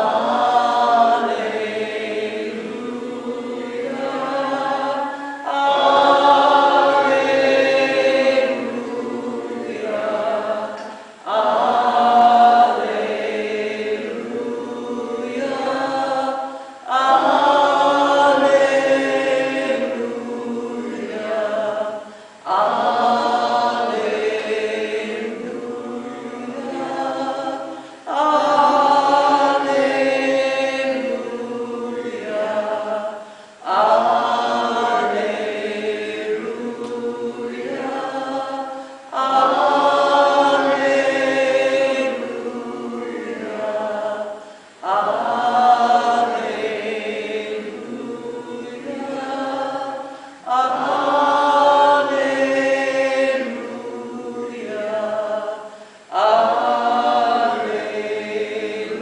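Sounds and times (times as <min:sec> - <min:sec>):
group of voices chanting: 0:00.0 - 0:59.0.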